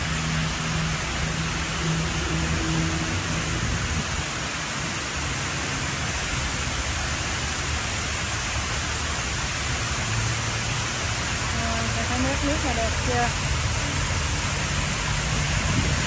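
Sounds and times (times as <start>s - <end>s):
fountain water rushing: 0.0s - 16.0s.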